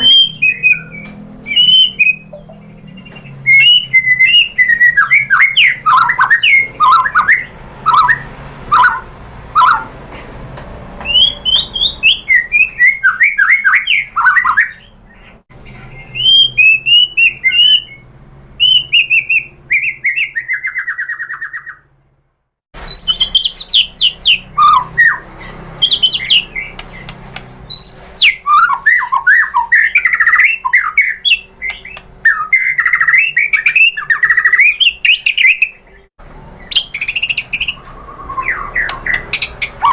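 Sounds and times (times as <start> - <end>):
bird singing whistled phrases: 0.0 - 9.0, 9.6 - 9.9, 11.0 - 18.0, 18.6 - 21.8, 22.9 - 27.1, 27.7 - 39.9.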